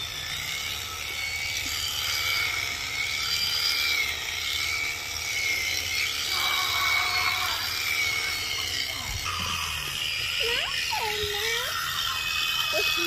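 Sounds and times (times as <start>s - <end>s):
electric shears motor whine: 0.0s - 13.0s.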